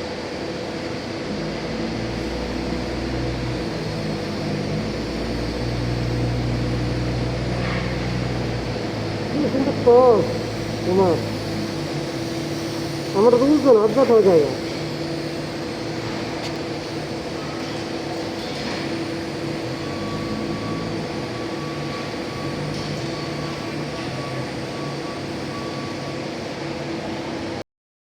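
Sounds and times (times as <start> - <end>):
machine hum with hiss: 0.0 - 27.6.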